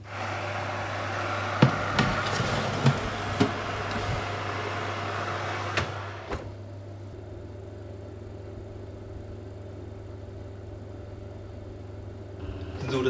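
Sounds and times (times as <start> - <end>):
electric oven whirring: 0.0 - 13.0
low hum: 0.0 - 13.0.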